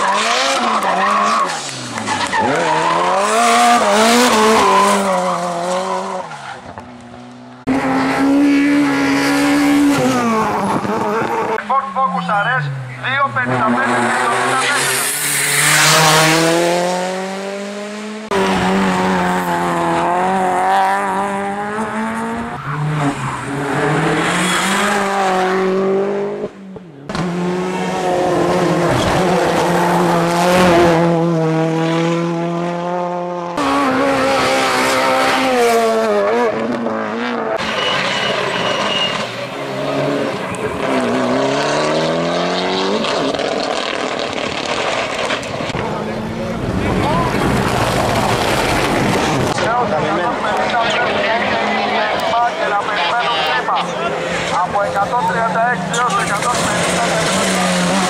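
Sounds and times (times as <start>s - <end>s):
race cars accelerating past: 0.0s - 58.0s.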